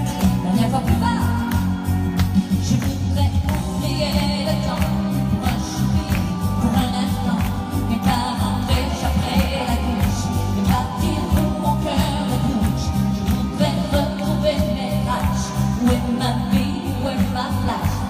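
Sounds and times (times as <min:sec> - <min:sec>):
pop backing track with beat: 0:00.0 - 0:18.0
woman singing into microphone: 0:00.0 - 0:18.0.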